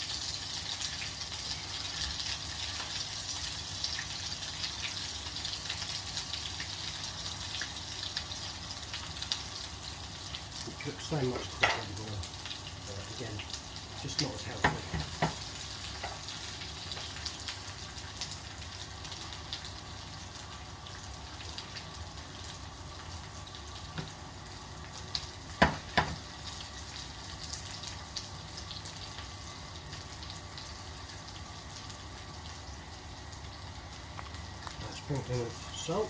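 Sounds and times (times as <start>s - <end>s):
potatoes sizzling in oil: 0.0s - 36.0s.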